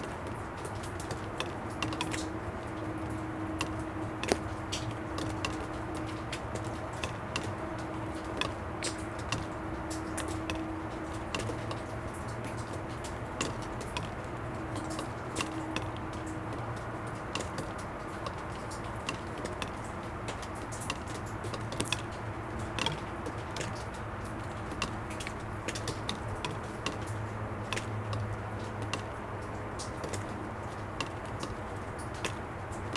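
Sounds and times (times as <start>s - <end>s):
distant traffic rumble: 0.0s - 32.9s
water drops ticking on plastic: 0.0s - 32.9s.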